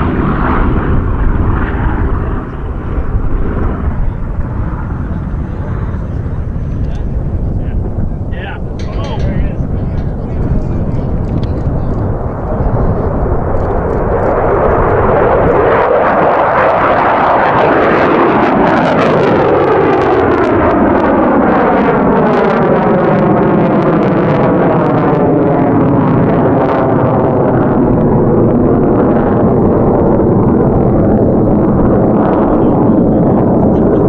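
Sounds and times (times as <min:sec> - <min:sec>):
jet flyby roar: 0:00.0 - 0:34.0.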